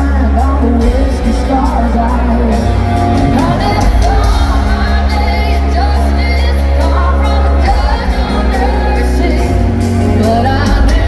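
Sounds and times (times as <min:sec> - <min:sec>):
live country band playing: 0:00.0 - 0:11.0
person singing: 0:00.0 - 0:11.0.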